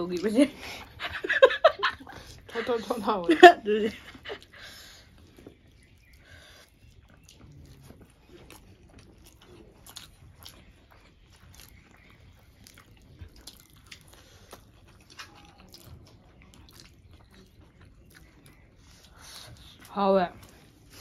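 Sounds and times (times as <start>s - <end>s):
chewing with lip-smacking: 0.0s - 21.0s.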